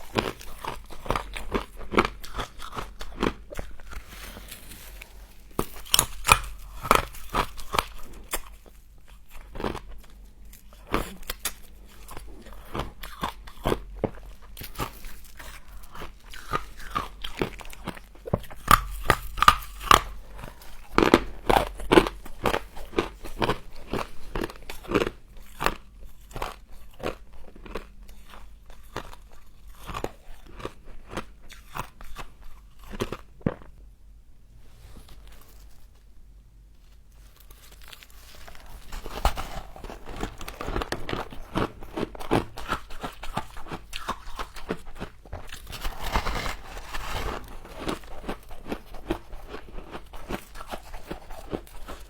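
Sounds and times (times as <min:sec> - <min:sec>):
ice being chewed crunching: 0:00.0 - 0:33.8, 0:37.2 - 0:52.0.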